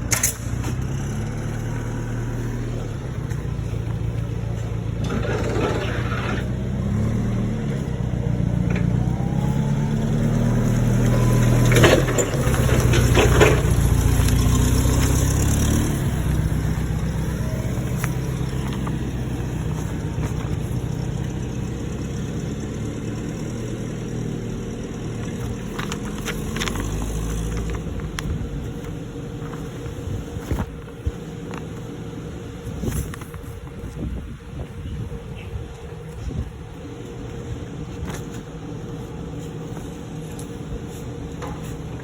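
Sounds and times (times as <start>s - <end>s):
heavy engine running: 0.0s - 42.0s.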